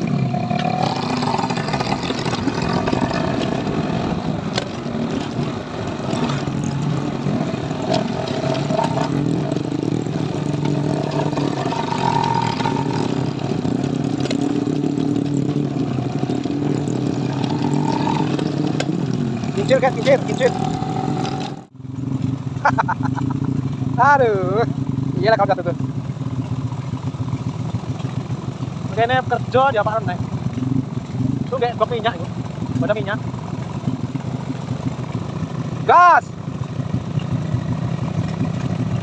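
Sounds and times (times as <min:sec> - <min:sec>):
small motorcycle engine running: 0:00.0 - 0:39.0.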